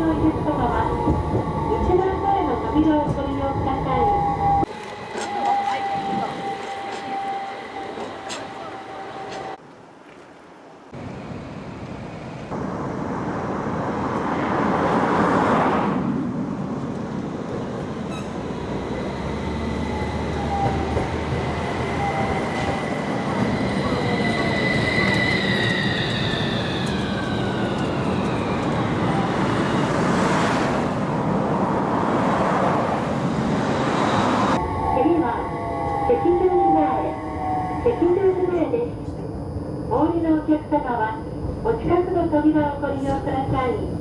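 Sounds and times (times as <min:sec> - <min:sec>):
tram high whine: 0:00.0 - 0:09.6, 0:11.0 - 0:44.0
tram wheels rumbling on rails: 0:00.0 - 0:09.6, 0:11.0 - 0:39.8.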